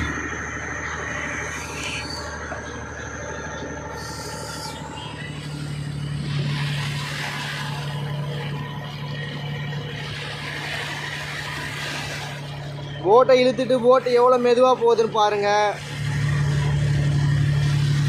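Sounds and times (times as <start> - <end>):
boat engine running: 0.0 - 18.0
water splashing against hull: 0.0 - 18.0.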